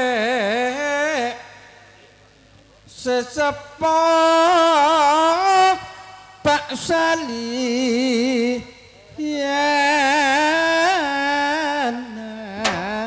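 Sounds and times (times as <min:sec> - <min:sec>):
person singing with vibrato: 0:00.0 - 0:02.0, 0:02.9 - 0:13.0.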